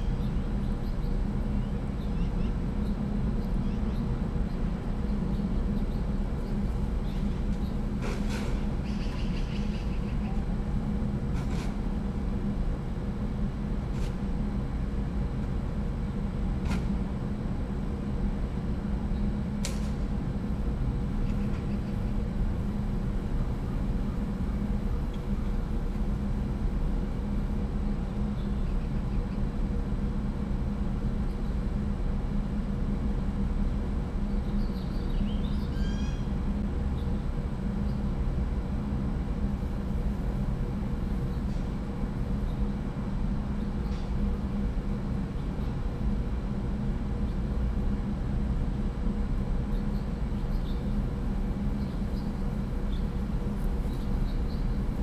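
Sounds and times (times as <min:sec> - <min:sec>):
low urban rumble: 0:00.0 - 0:55.0.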